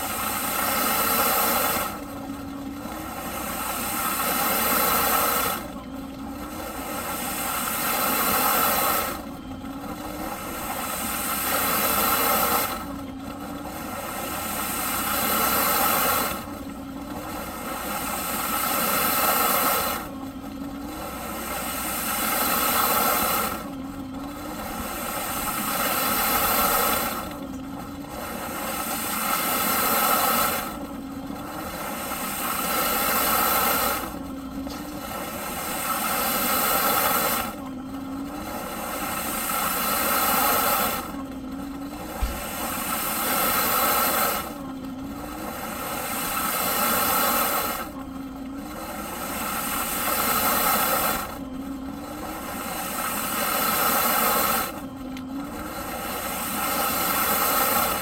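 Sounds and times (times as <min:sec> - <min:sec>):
vacuum cleaner motor surging: 0:00.0 - 0:58.0.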